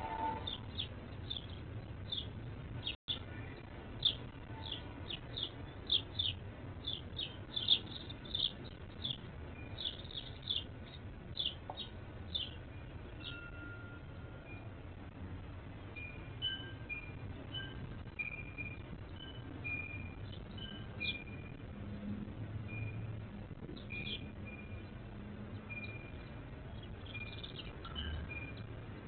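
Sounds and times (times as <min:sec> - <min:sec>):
low background rumble: 0:00.0 - 0:29.0
small birds chirping: 0:00.3 - 0:13.7, 0:18.0 - 0:22.1, 0:22.7 - 0:29.0.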